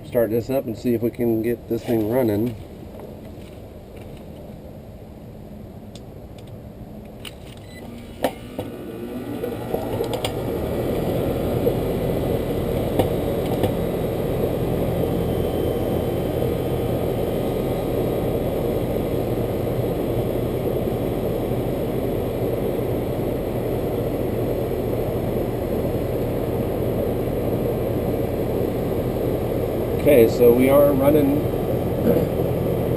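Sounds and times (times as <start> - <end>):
air conditioner running hum: 0.0 - 32.9.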